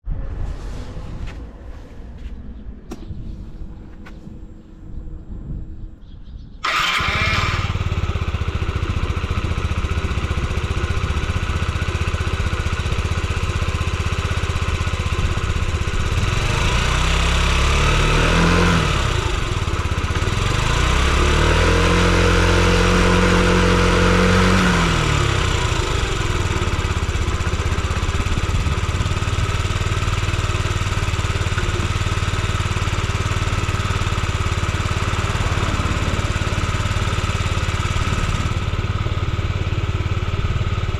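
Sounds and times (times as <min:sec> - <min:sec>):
scooter engine idling and revving: 0:06.6 - 0:40.9.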